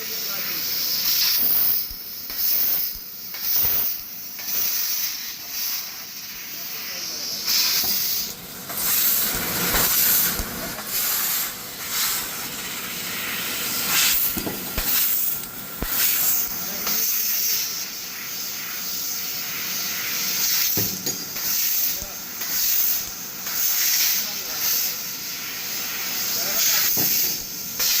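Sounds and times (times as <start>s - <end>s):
laser cutter jet hissing: 0.0s - 28.0s.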